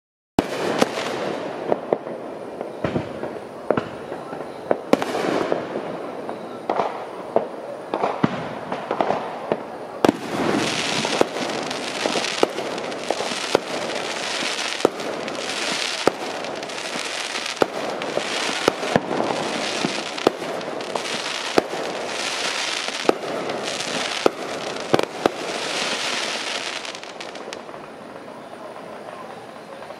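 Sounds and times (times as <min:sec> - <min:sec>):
fireworks bangs: 0:00.4 - 0:29.9
fireworks crackling: 0:00.4 - 0:29.9.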